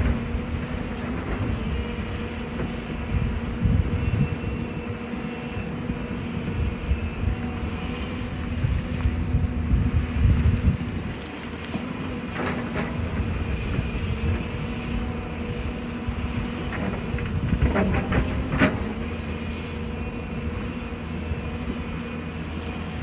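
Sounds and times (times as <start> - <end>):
excavator engine running: 0.0 - 23.0.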